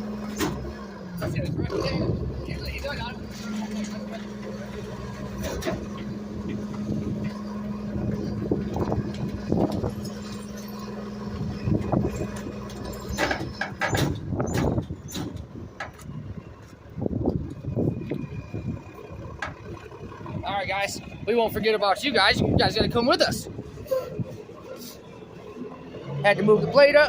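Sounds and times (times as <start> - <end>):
garbage truck humming: 0.0 - 27.0.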